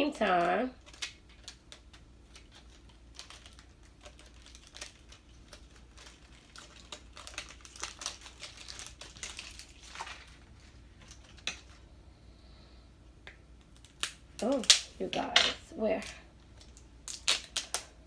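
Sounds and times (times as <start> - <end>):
toy packaging crinkling: 0.2 - 11.8, 13.7 - 18.0.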